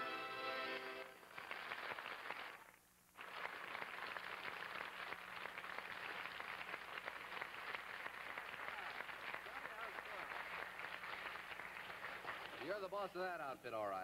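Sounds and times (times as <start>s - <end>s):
audience applauding: 0.7s - 13.3s.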